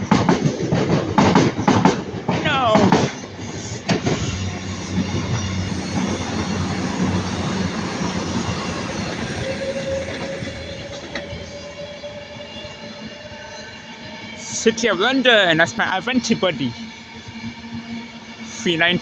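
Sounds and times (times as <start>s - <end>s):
train wheels rushing on rail: 0.0s - 19.0s.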